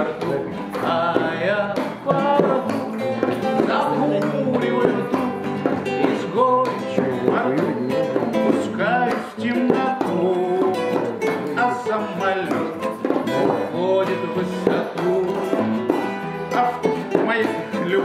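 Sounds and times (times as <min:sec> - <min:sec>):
acoustic guitars playing: 0:00.0 - 0:18.0
man singing: 0:00.0 - 0:18.0.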